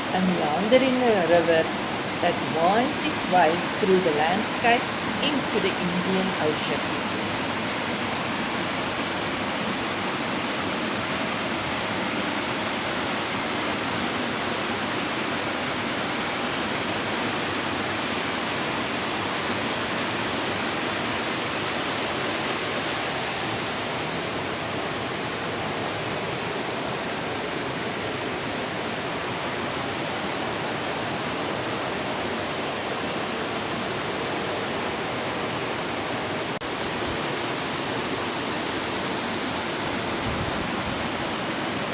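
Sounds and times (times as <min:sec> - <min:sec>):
river water rushing over cascade: 0:00.0 - 0:41.9.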